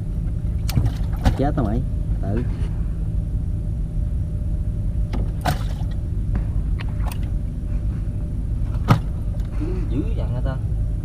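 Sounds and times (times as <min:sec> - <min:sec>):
low motor drone: 0:00.0 - 0:11.0.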